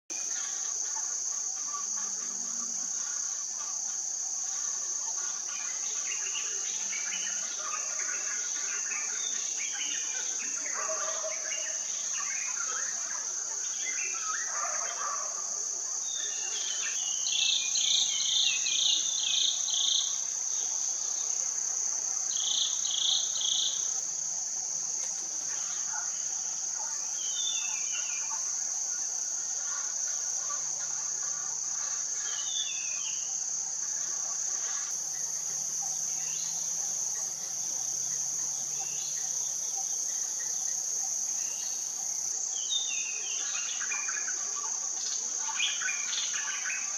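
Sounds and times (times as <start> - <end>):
high-pitched insect drone: 0.1 - 46.9.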